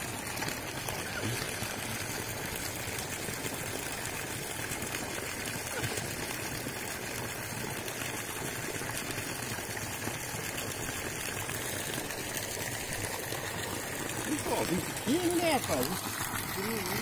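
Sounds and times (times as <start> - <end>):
water jet splashing into pond: 0.0 - 17.0.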